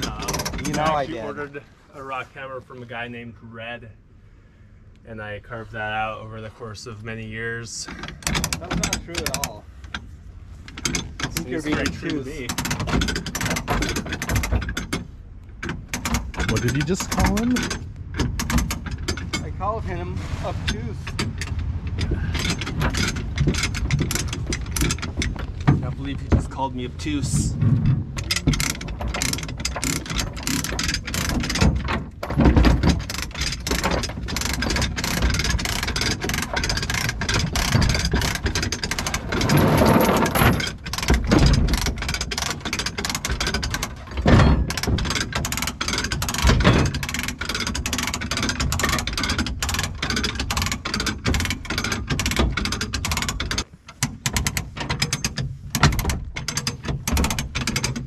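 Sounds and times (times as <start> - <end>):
mechanical clicking and rattling: 0.0 - 1.2, 7.8 - 19.8, 20.7 - 58.0.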